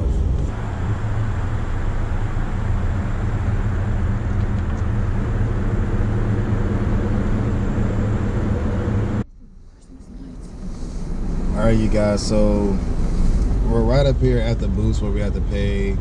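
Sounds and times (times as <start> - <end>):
car engine hum: 0.0 - 16.0
road and wind noise: 0.0 - 16.0.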